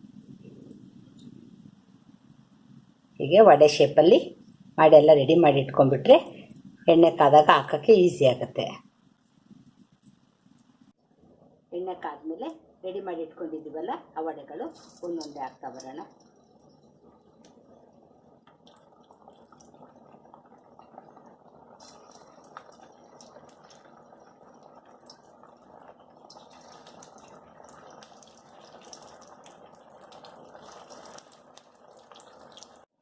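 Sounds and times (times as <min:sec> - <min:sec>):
food deep-frying in oil: 0:00.0 - 0:11.0, 0:11.8 - 0:33.0.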